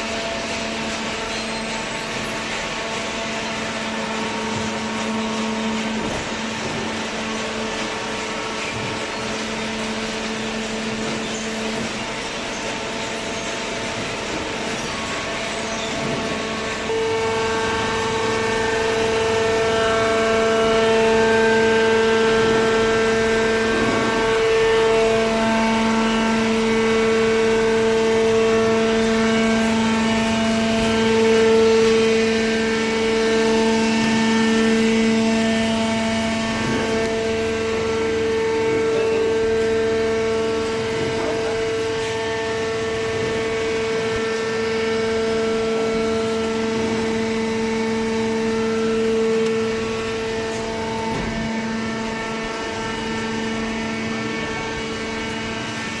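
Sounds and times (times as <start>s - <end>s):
machine motor whine: 0.0s - 56.0s.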